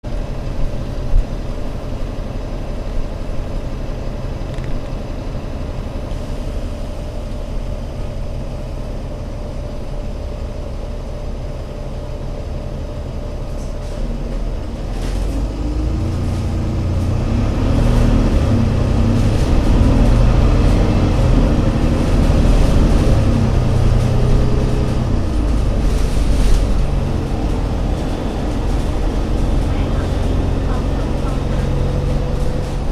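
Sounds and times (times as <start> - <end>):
bus engine running: 0.0 - 32.9.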